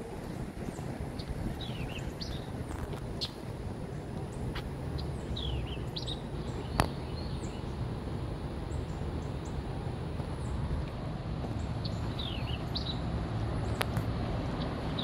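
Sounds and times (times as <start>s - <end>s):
low outdoor rumble: 0.0s - 15.0s
small birds chirping: 0.1s - 15.0s.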